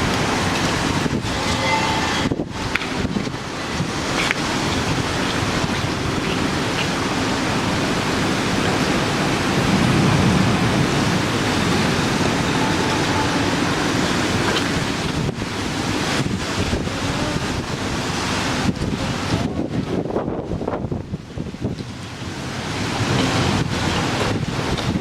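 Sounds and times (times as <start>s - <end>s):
storm rushing: 0.0s - 25.0s.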